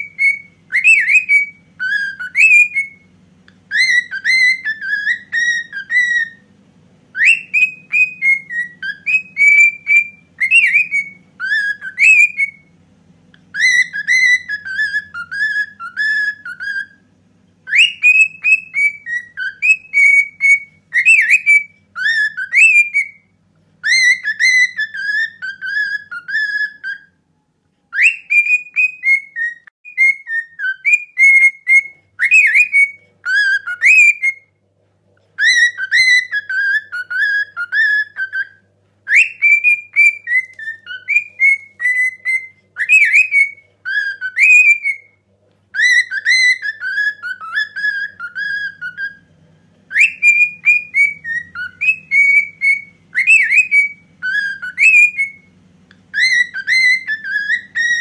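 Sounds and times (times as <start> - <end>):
cockatiel whistling a march melody: 0.0 - 34.6, 35.3 - 58.0.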